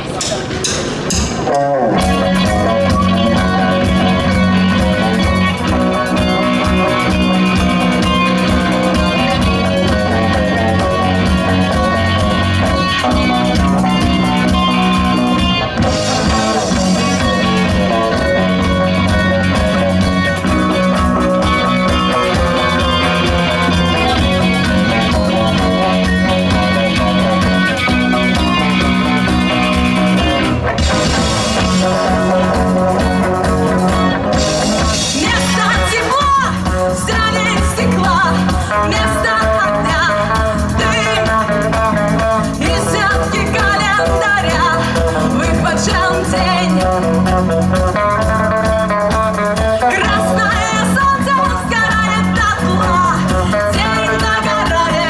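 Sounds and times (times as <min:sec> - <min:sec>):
drum kit beat: 0:00.0 - 0:55.0
electric guitar: 0:00.0 - 0:55.0
bass guitar: 0:00.1 - 0:55.0.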